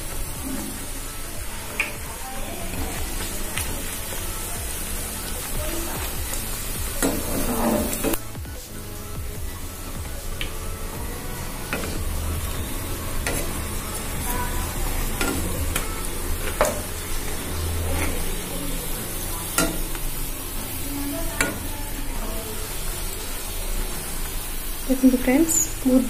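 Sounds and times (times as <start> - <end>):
skimmer clicking and scraping pan: 0.0 - 8.4, 9.7 - 23.4
dough sizzling in hot oil: 0.0 - 26.0.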